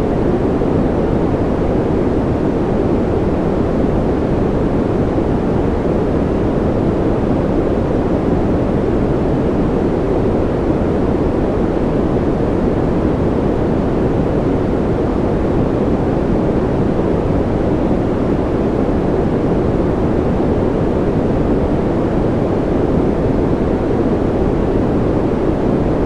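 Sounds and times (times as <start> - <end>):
deep muffled white noise: 0.0 - 26.0.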